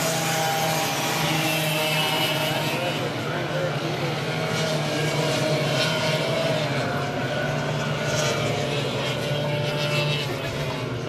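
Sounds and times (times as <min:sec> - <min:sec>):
two-stroke kart engines buzzing: 0:00.0 - 0:11.0.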